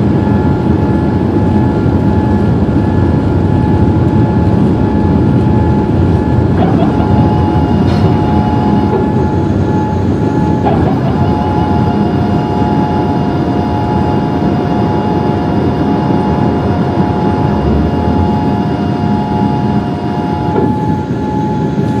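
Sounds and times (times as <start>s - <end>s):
jet engines and airflow rush: 0.0s - 22.0s
steady whine: 0.0s - 22.0s.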